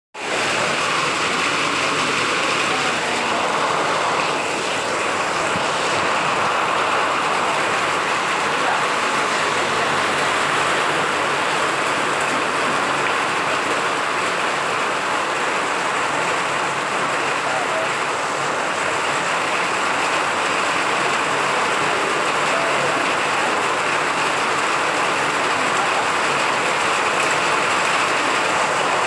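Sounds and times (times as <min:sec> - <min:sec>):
heavy rain pouring: 0:00.2 - 0:29.0.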